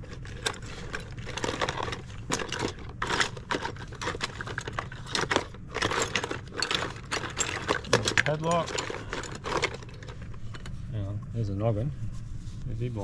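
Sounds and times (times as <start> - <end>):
small toys clicking and knocking: 0.0 - 10.8
rustling and crinkling: 0.0 - 13.0.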